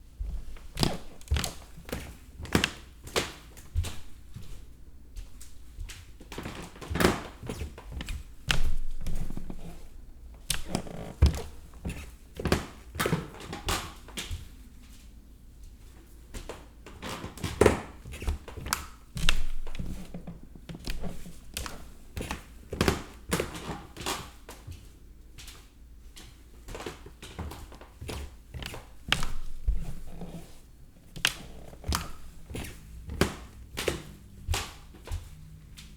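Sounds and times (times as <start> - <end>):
wooden stairs creaking under footsteps: 0.2 - 4.6, 5.2 - 14.2, 16.9 - 24.0, 26.7 - 35.9.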